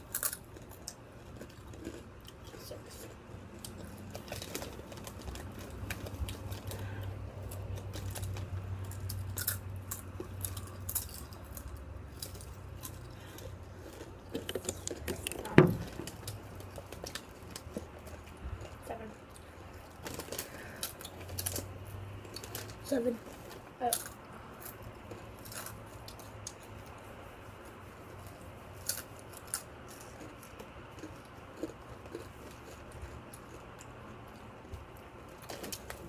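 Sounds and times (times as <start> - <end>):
children chewing crunchy chips: 0.0 - 36.0
steady low hum: 0.0 - 36.0.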